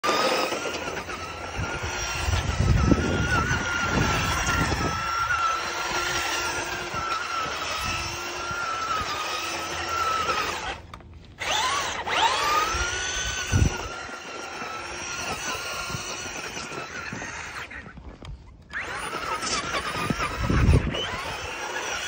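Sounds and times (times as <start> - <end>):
toy truck motor whining: 0.0 - 22.0.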